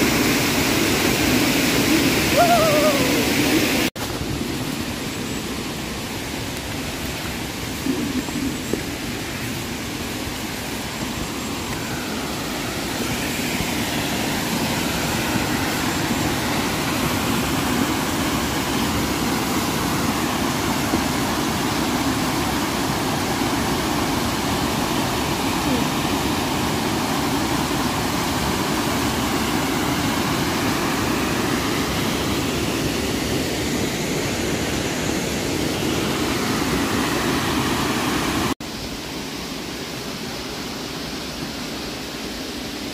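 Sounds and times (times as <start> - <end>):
water rushing in a gorge: 0.0 - 4.0, 4.6 - 42.9.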